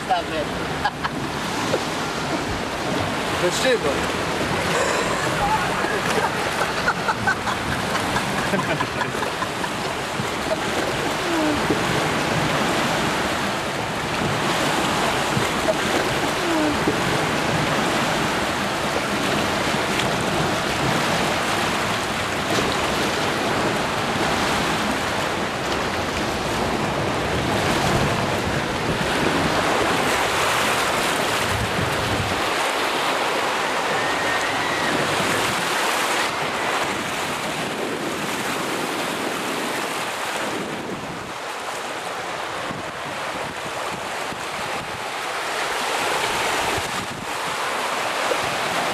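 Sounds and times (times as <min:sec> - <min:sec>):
white water rushing and splashing: 0:00.0 - 0:48.9.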